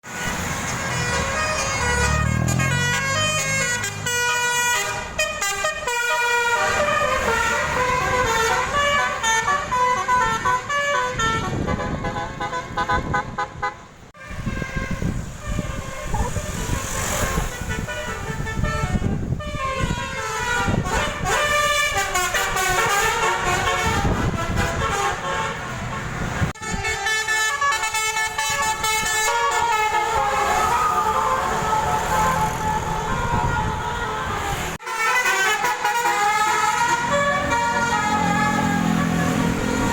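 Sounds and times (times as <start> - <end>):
musical bus horn tune: 0.0 - 39.9
passing vehicle rumble: 0.0 - 39.9.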